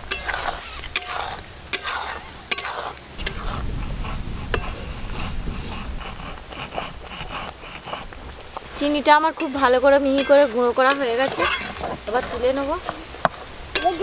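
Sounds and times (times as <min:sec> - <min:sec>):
spatula stirring boiling pulp: 0:00.0 - 0:14.0.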